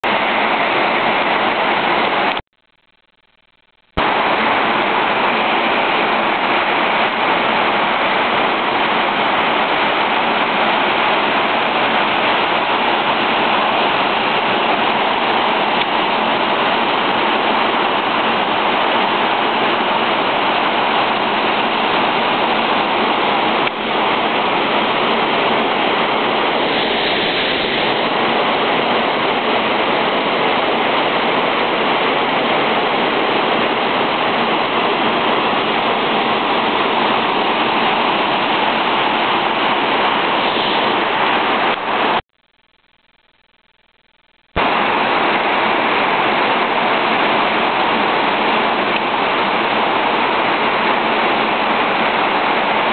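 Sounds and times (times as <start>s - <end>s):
waterfall rushing: 0.0s - 2.4s, 4.0s - 42.2s, 44.6s - 52.9s.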